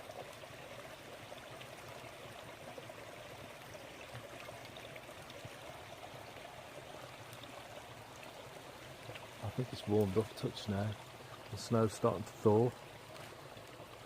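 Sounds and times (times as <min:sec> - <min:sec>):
brook babbling: 0:00.0 - 0:14.0.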